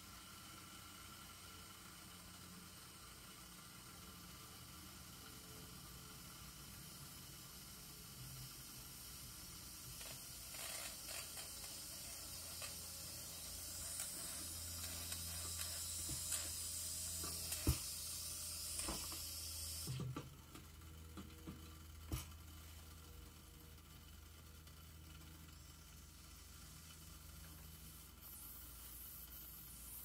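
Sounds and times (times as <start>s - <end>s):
steam hissing from valve: 0.0s - 19.9s, 25.5s - 30.0s.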